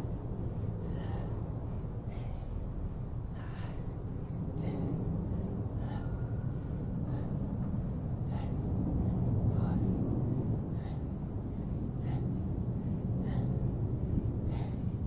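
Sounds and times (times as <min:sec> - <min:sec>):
low rumble: 0:00.0 - 0:15.0
man breathing hard: 0:00.0 - 0:15.0.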